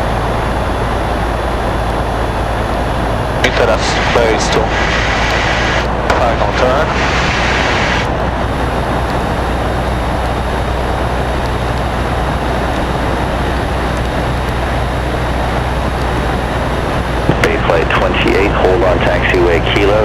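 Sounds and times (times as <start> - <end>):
light aircraft engine droning: 0.0 - 20.0.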